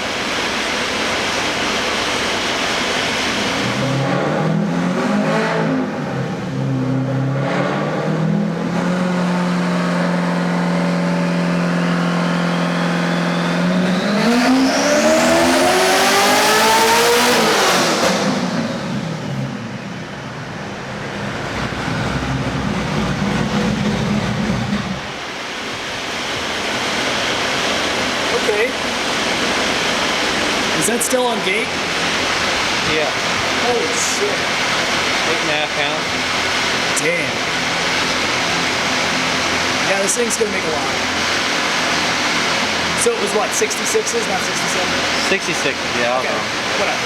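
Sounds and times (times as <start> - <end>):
turbo whine: 0.0 - 47.0
car engine revving: 2.5 - 47.0.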